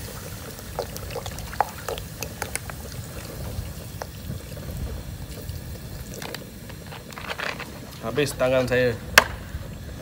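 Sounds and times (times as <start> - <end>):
soda fizzing in hot wok: 0.0 - 8.5.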